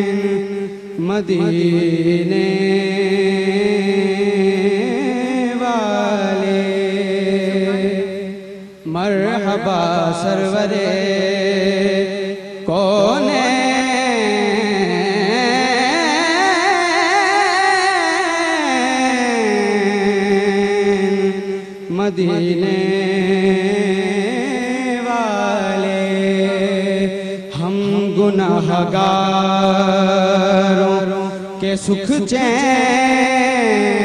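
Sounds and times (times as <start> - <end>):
man reciting in song: 0.0 - 34.0.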